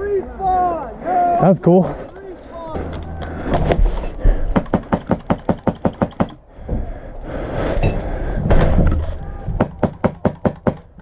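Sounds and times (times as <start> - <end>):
noisy rumble: 2.2 - 11.0.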